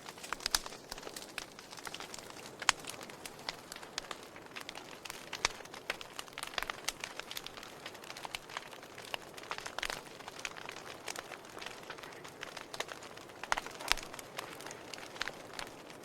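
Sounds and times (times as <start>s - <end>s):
wood fire crackling and hissing: 0.0s - 16.0s.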